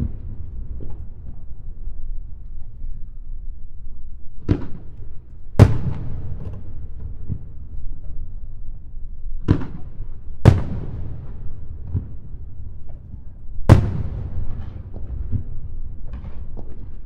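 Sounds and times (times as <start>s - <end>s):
fireworks booming with echo: 0.0s - 17.0s.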